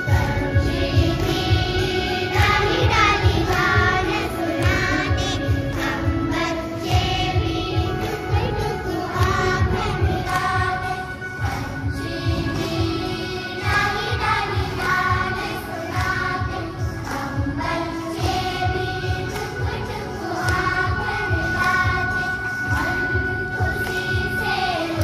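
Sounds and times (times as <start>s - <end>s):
children's choir singing: 0.0s - 25.0s.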